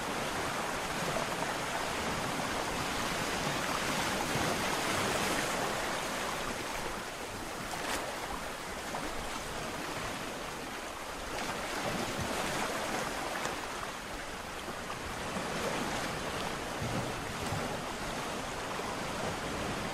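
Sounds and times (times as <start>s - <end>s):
waves breaking on shore: 0.0s - 19.9s.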